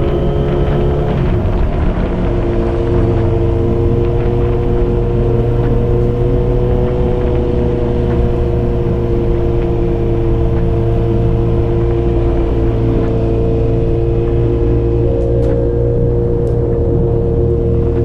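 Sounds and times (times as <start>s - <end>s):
motorcycle engine at steady revs: 0.0s - 18.0s.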